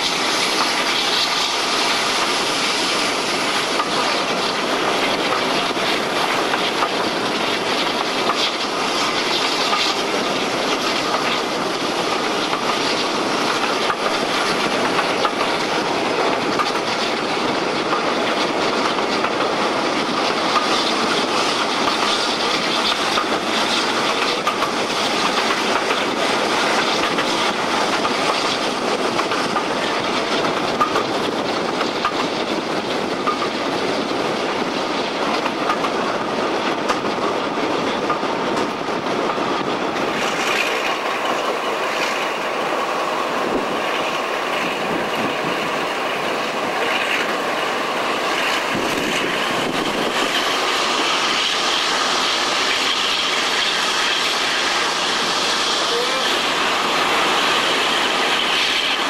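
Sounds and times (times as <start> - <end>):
diesel locomotive running: 0.0 - 59.0
wheels clicking over rail joints: 3.6 - 51.6.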